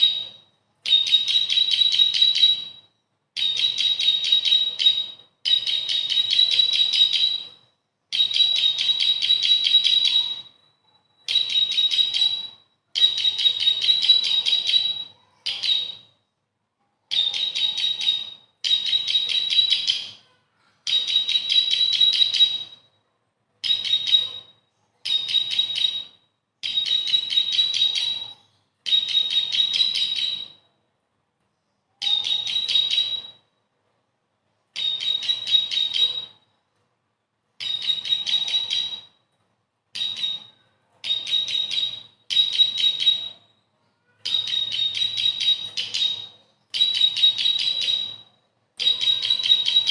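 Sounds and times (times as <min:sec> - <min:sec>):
bird chirping: 0:00.0 - 0:16.4, 0:17.1 - 0:23.0, 0:23.6 - 0:30.7, 0:31.5 - 0:33.6, 0:34.7 - 0:36.6, 0:37.6 - 0:39.2, 0:40.0 - 0:49.9.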